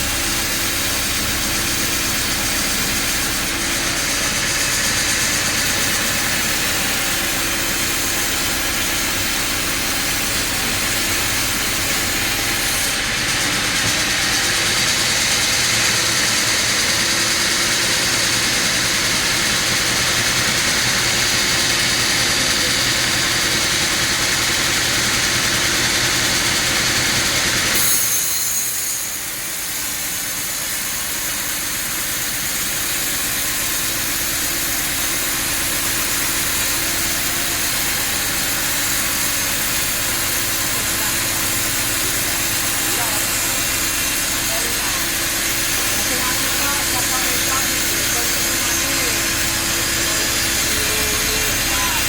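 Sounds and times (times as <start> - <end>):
saw hissing: 0.0 - 52.0
sawmill machinery hum: 0.0 - 52.0.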